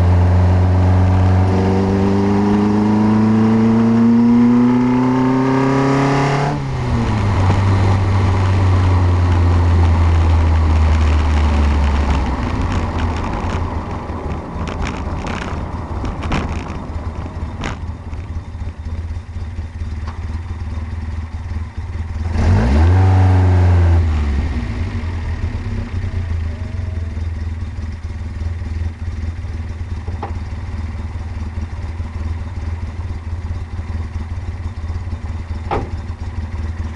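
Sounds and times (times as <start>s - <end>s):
race car engine idling and revving: 0.0s - 36.9s.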